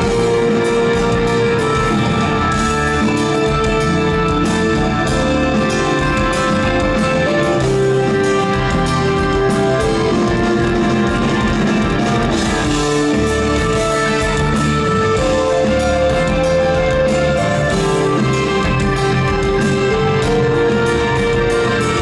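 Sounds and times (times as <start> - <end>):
held lead guitar notes: 0.0 - 22.0
rock band playing instrumental: 0.0 - 22.0.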